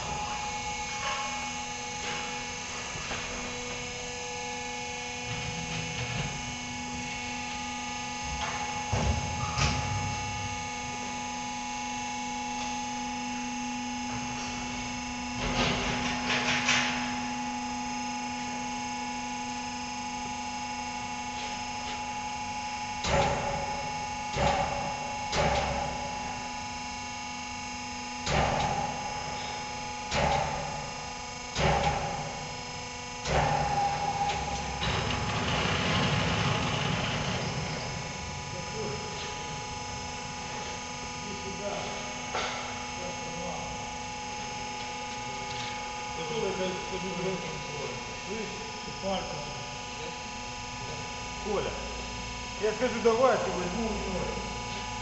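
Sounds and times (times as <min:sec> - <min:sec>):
hydraulic power unit humming: 0:00.0 - 0:55.0.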